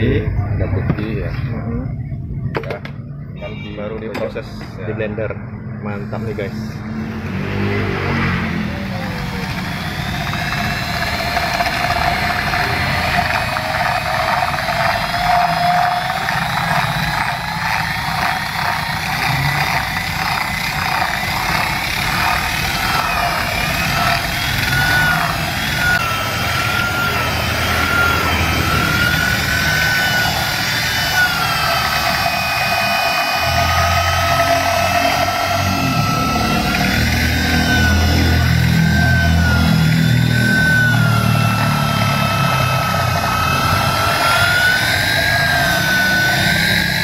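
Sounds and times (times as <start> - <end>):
electric drill whisk whining: 6.0 - 47.0.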